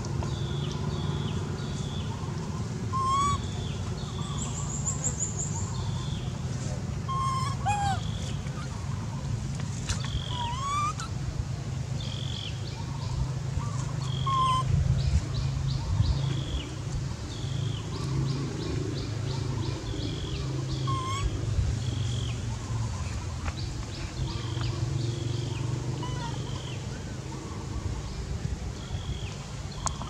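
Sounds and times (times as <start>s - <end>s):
birds chirping: 0.0s - 11.2s, 11.8s - 30.0s.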